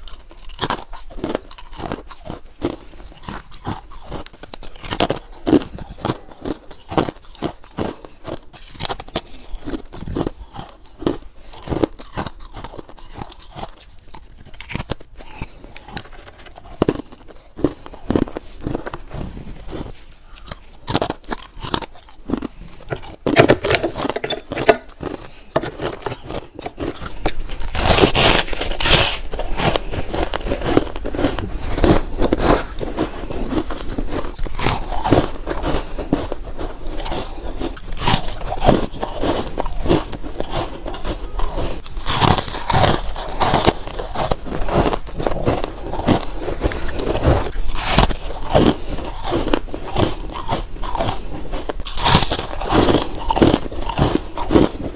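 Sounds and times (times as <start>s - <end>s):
person chewing crunchy frost: 0.0s - 54.9s.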